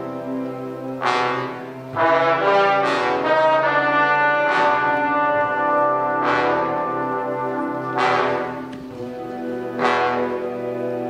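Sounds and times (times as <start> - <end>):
marching band brass chords: 0.0 - 11.0.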